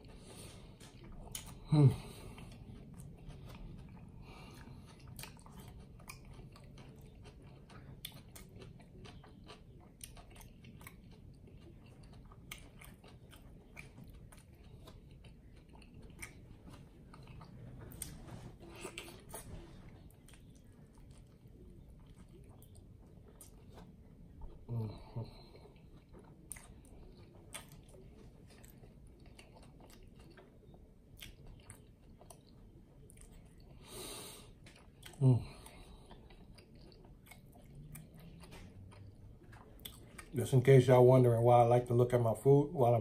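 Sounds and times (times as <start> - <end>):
close chewing with mouth smacks: 0.0 - 40.9.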